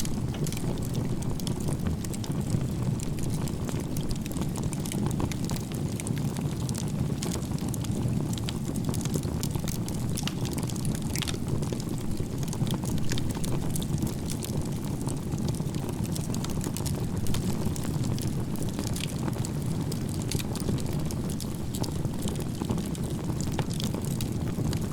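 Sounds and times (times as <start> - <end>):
campfire burning: 0.0 - 24.9
fire crackling and popping: 0.0 - 24.9.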